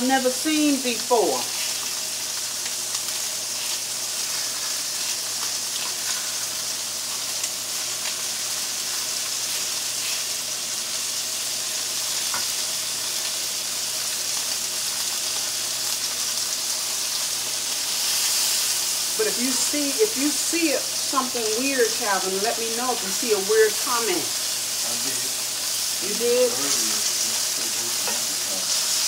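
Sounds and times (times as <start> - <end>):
meat sizzling in skillets: 0.0 - 29.0.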